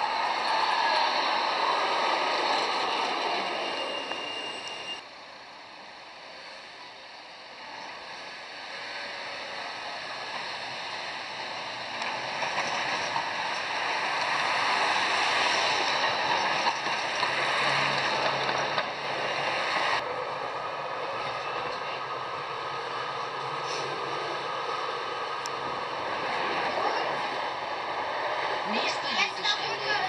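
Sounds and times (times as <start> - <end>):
street traffic noise: 0.0 - 30.0
tram approaching and passing: 0.0 - 30.0
tram wheels rumbling on rail: 0.0 - 30.0.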